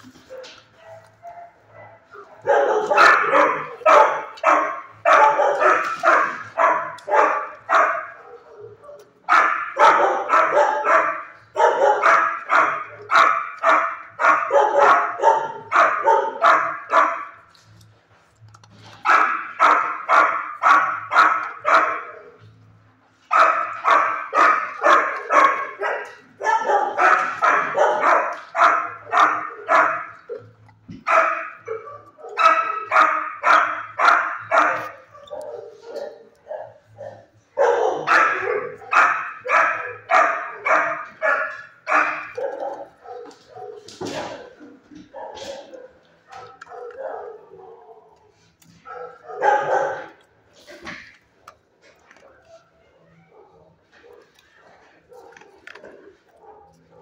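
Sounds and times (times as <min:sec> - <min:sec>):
dogs barking: 0:00.0 - 0:57.0.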